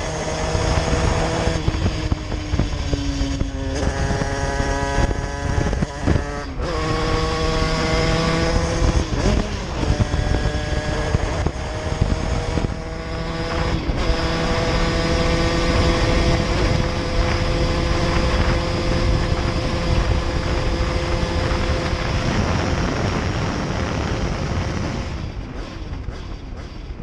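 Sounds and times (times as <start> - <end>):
two-stroke moped engine running: 0.0 - 27.0
wind on microphone: 0.0 - 27.0.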